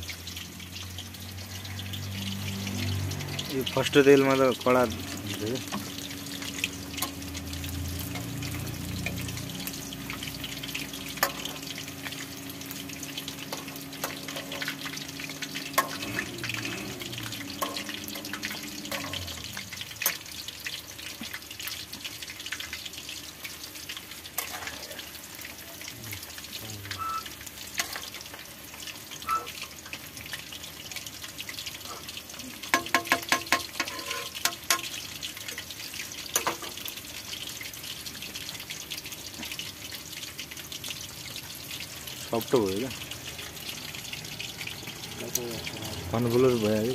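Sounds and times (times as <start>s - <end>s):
meat deep-frying in oil: 0.0s - 46.9s.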